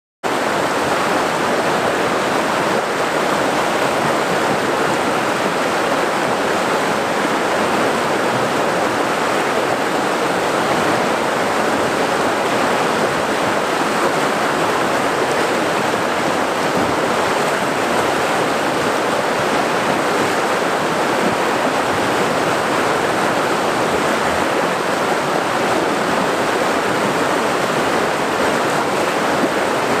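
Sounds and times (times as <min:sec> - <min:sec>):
river rapids rushing over rocks: 0:00.3 - 0:30.0.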